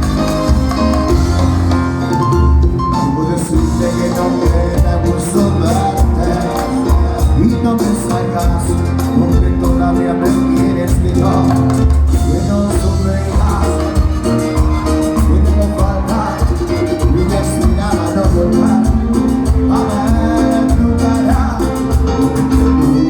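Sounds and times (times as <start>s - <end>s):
band playing latin dance music: 0.0s - 23.0s.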